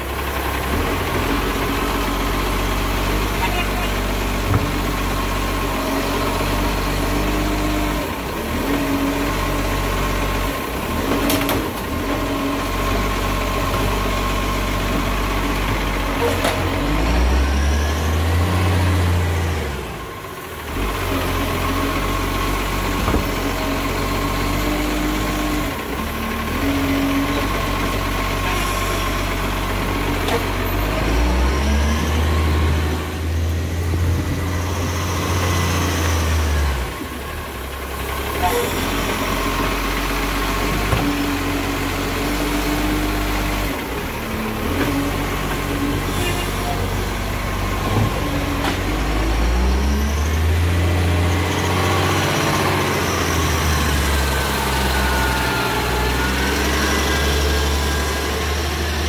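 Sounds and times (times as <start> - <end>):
diesel truck engine idling: 0.0 - 59.0
engine revving: 0.0 - 59.0.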